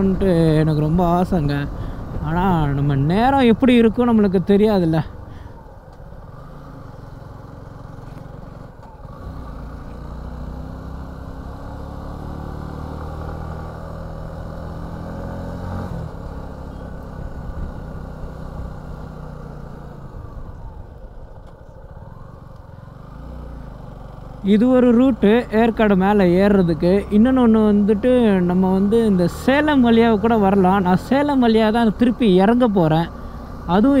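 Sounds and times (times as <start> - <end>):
motorcycle engine revving: 6.2 - 34.0.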